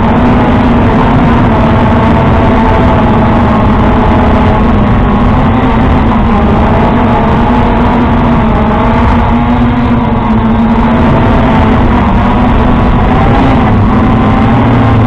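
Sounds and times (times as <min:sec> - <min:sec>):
electric motors whining: 0:00.0 - 0:15.0
heavy rumble: 0:00.0 - 0:15.0.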